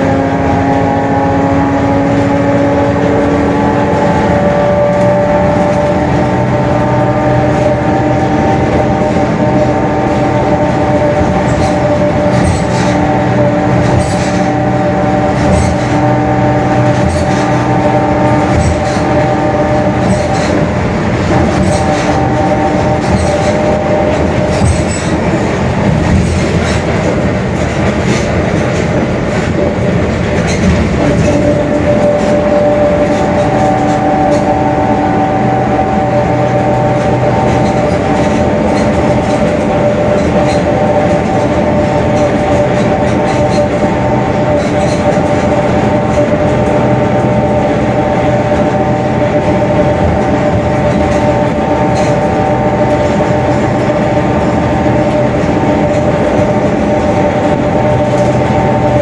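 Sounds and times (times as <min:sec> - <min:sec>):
bus gear whine: 0:00.0 - 0:59.0
bus running and road noise: 0:00.0 - 0:59.0.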